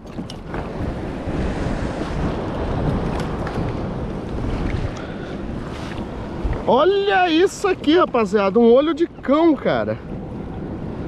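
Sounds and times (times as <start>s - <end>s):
water rushing: 0.0s - 11.0s
wind on microphone: 0.0s - 11.0s.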